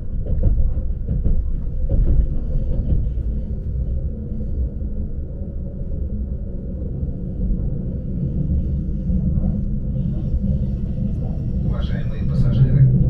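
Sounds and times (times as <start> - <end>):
electric train rumbling from inside: 0.0 - 13.0.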